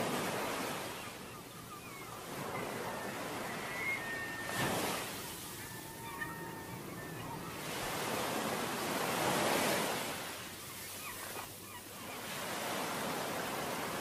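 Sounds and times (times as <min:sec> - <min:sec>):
waves rushing: 0:00.0 - 0:14.0.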